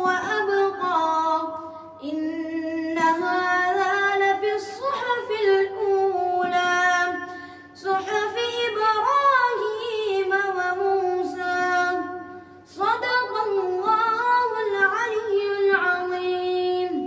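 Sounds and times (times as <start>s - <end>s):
boy chanting melodically: 0.0s - 17.0s.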